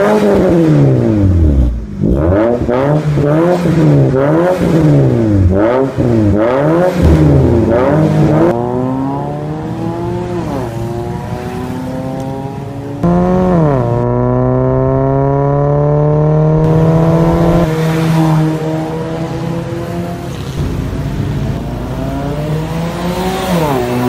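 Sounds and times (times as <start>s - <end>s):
car engine revving and accelerating: 0.0s - 24.0s.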